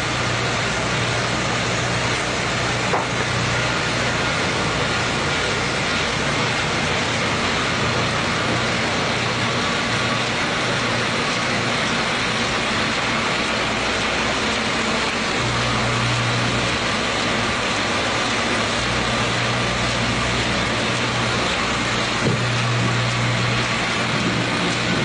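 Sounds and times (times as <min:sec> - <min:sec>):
printing machinery running: 0:00.0 - 0:25.0.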